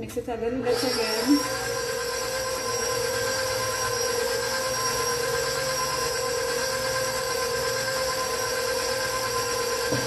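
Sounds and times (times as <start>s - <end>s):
stand mixer motor whining: 0.6s - 10.0s.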